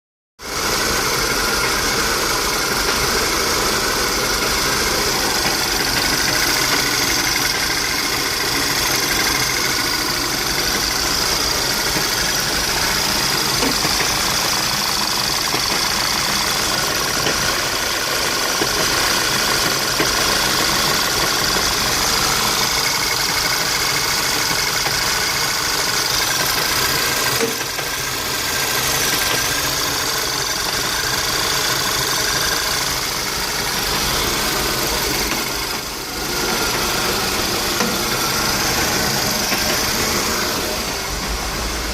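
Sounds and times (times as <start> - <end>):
car engine idling roughly: 0.4 - 41.9.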